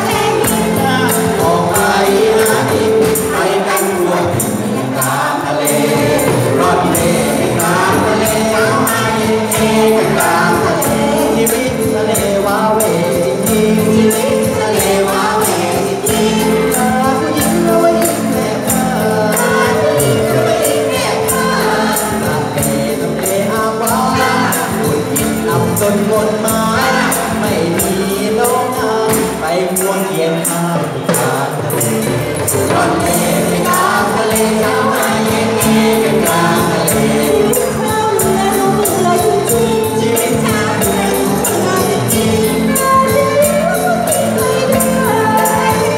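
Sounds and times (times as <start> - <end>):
band accompaniment: 0.0 - 45.9
group of voices singing: 0.0 - 45.9
steady percussion beat: 0.0 - 45.9.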